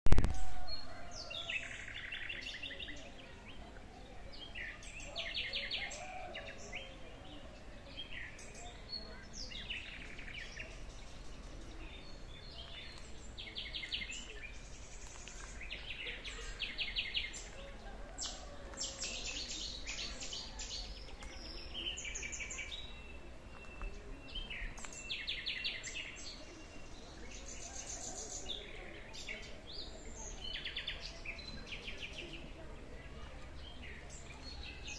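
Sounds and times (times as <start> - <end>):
songbirds calling: 0.2 - 34.9.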